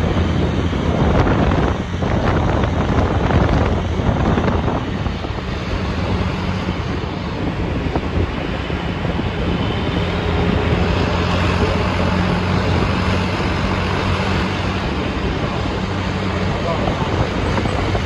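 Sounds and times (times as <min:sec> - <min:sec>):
bus engine hum: 0:00.0 - 0:18.0
road and wind noise: 0:00.0 - 0:18.0.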